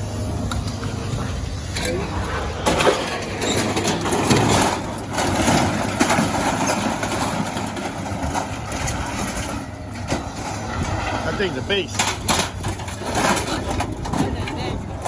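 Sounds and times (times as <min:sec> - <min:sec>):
heavy machine engine running: 0:00.0 - 0:15.0
scrap metal scraping and clanking: 0:00.5 - 0:15.0.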